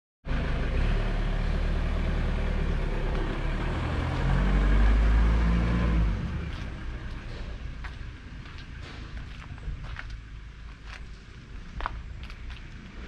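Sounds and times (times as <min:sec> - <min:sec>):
diesel engine running: 0:00.3 - 0:13.0.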